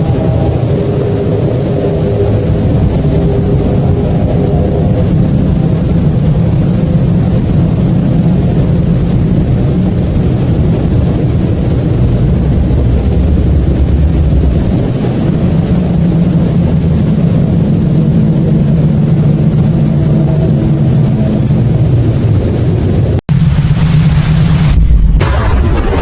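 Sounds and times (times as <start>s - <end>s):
loud low rumble with deep hum: 0.0s - 26.0s.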